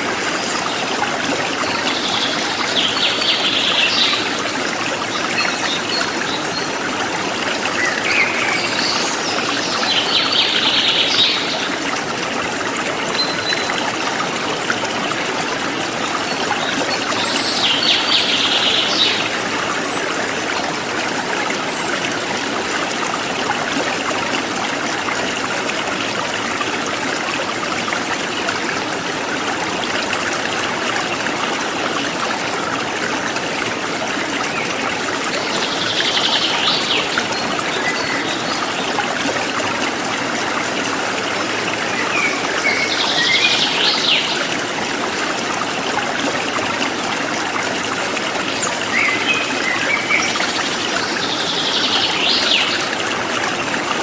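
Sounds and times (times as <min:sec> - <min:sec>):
stream flowing and trickling: 0:00.0 - 0:54.0.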